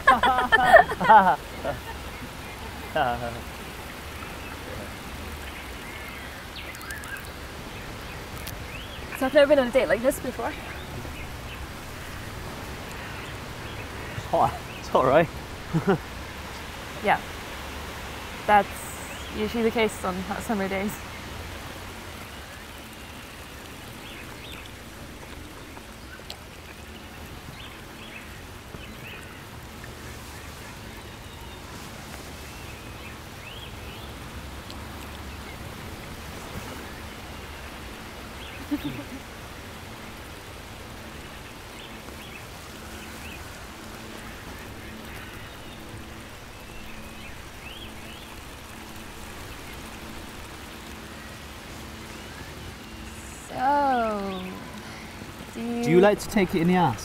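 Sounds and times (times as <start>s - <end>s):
fountain water trickling: 0.0s - 57.0s
small birds chirping: 0.0s - 57.0s.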